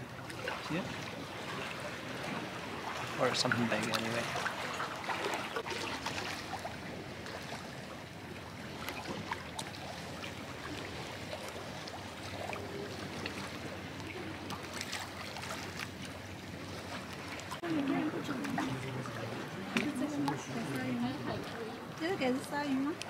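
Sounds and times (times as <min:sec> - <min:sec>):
small splashes: 0:00.0 - 0:23.0
water lapping against a pier: 0:00.0 - 0:23.0.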